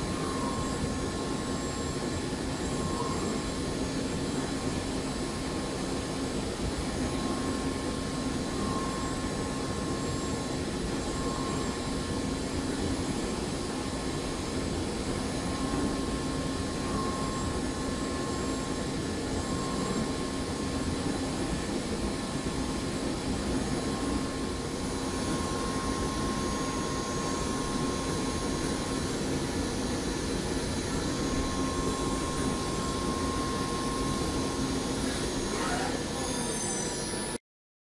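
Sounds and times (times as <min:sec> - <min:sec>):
milling machine whine: 0:00.0 - 0:37.4.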